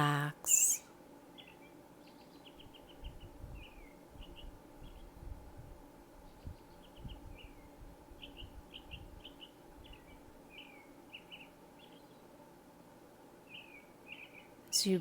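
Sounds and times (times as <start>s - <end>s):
small birds chirping: 0.0s - 5.3s, 6.1s - 12.5s, 13.4s - 15.0s
steady low hum: 0.0s - 15.0s.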